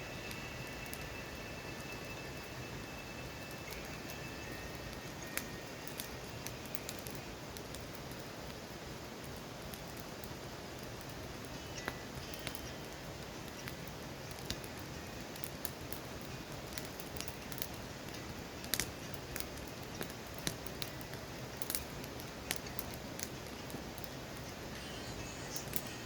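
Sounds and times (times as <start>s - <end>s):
fire hissing: 0.0s - 26.0s
campfire crackling and popping: 0.1s - 26.0s.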